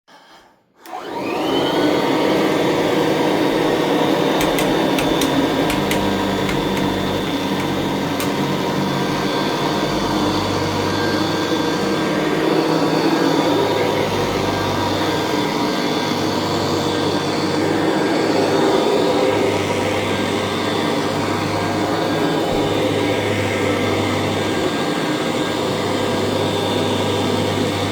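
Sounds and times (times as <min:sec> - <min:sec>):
vacuum cleaner motor whining: 0:00.8 - 0:27.9.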